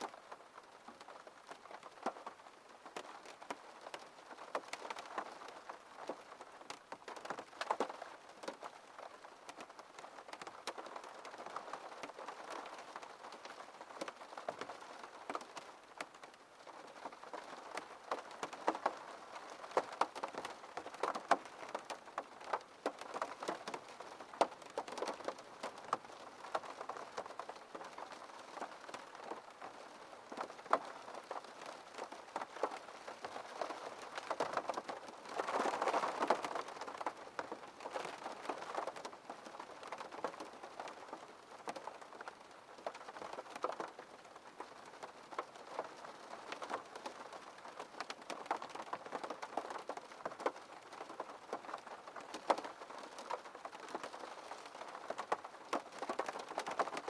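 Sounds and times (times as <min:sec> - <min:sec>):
rain on a window: 0:00.0 - 0:57.0
raindrops hitting glass: 0:01.0 - 0:57.0.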